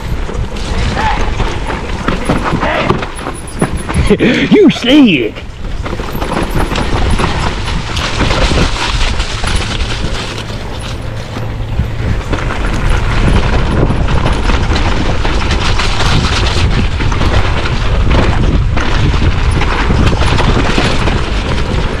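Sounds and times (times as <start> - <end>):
wind rumbling on microphone: 0.0 - 4.6, 5.3 - 22.0
bike rattling over rough ground: 0.0 - 22.0
bike tyres rolling on dirt: 0.0 - 22.0.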